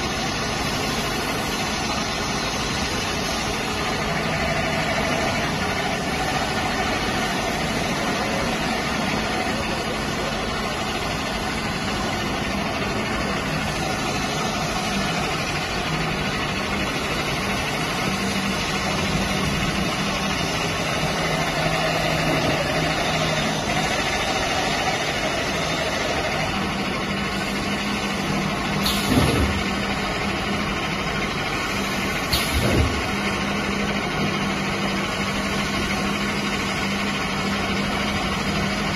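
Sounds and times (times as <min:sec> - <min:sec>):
pipe drilling machine running: 0:00.0 - 0:38.9.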